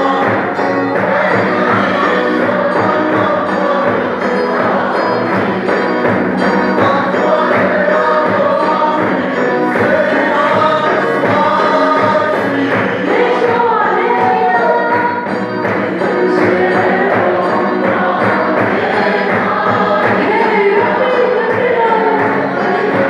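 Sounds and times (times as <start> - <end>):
crowd singing a hymn: 0.0 - 23.0
large drum beat: 0.0 - 23.0.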